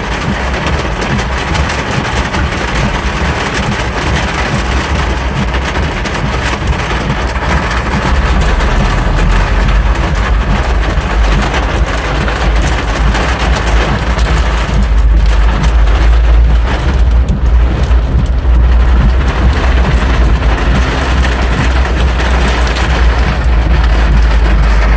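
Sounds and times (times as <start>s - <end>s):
car rolling through water: 0.0s - 24.9s
heavy rain on car roof: 0.0s - 24.9s.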